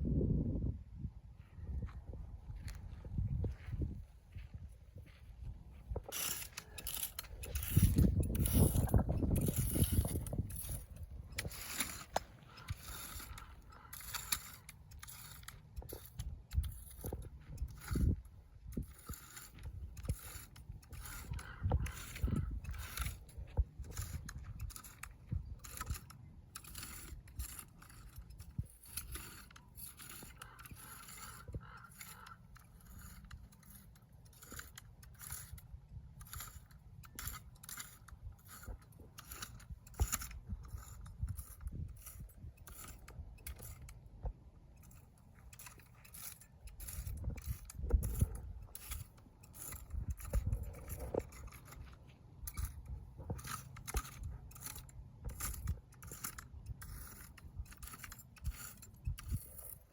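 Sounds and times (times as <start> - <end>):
hand tool scraping dry weeds: 1.5 - 59.9.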